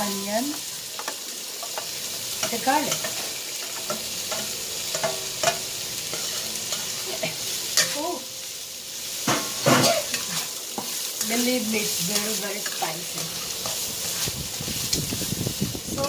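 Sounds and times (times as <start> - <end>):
food sizzling in oil: 0.0 - 16.0
spatula scraping a wok: 0.6 - 8.1, 9.0 - 16.0.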